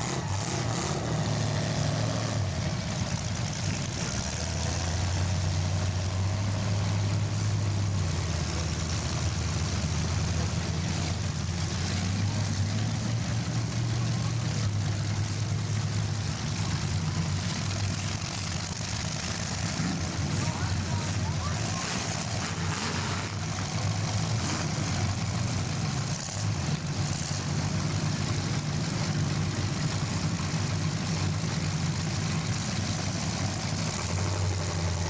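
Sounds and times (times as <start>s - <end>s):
car engines droning: 0.0s - 35.0s.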